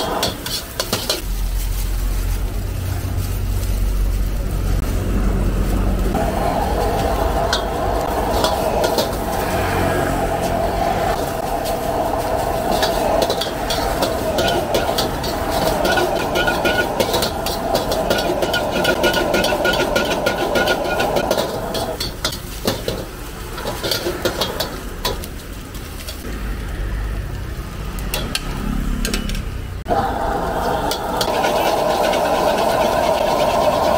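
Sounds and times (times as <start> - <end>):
metal ladle scraping a wok: 0.0 - 4.1, 6.1 - 26.2, 30.8 - 33.9
food sizzling: 0.0 - 28.0, 29.9 - 33.9
gas burner roaring: 0.0 - 33.9.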